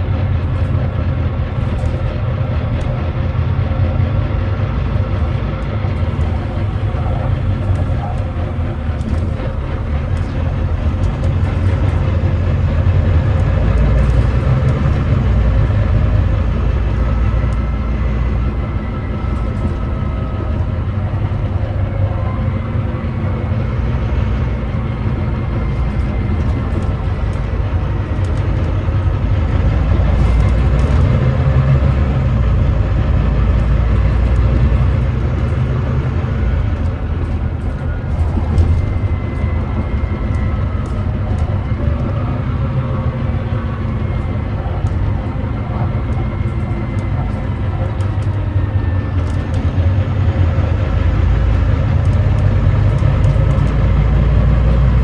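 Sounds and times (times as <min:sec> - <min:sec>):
diesel bus engine rumbling: 0:00.0 - 0:55.0.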